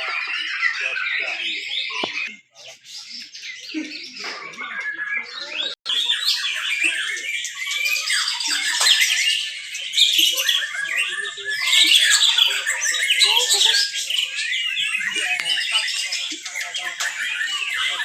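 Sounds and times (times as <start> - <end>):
chorus of songbirds singing: 0.0 - 18.0.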